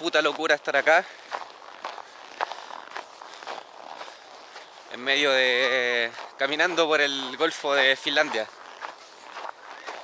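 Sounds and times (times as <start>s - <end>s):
footsteps in snow: 0.0s - 10.0s.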